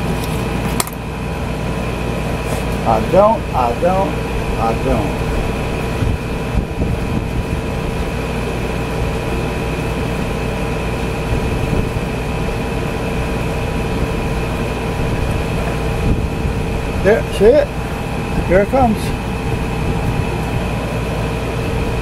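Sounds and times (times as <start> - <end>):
air conditioner fan rushing: 0.0 - 22.0.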